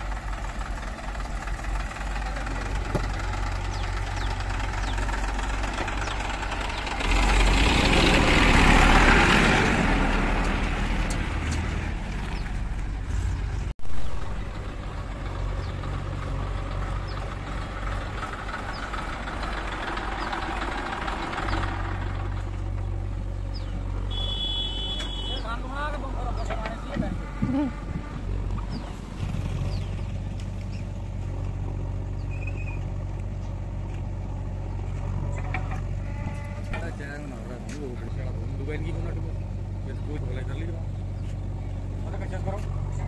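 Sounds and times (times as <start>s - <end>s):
backhoe loader diesel engine: 0.0s - 43.0s
tractor diesel engine running: 0.0s - 43.0s.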